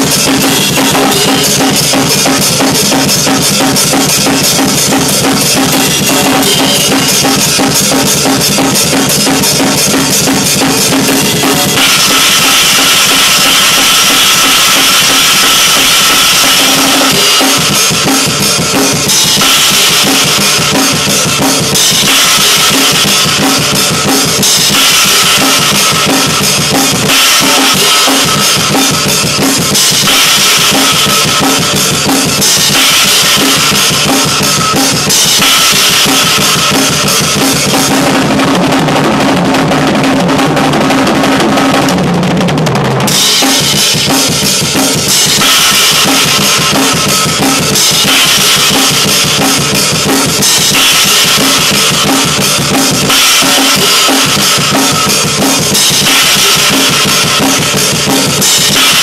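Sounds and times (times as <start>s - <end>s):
cymbal wash: 0.0s - 38.1s, 43.2s - 59.0s
metal drumming on drum kit: 0.0s - 59.0s.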